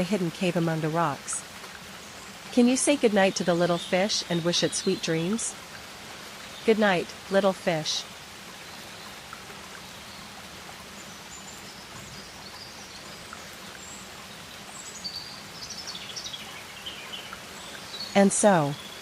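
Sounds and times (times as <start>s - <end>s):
steady watery hiss: 0.0s - 19.0s.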